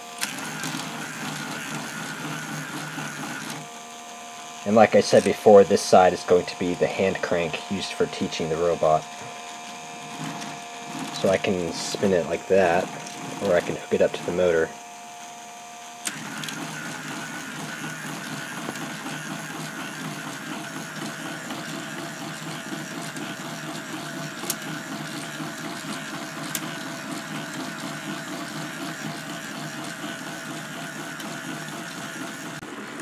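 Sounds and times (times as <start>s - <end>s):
motor whirr with gear rattle: 0.0s - 33.0s.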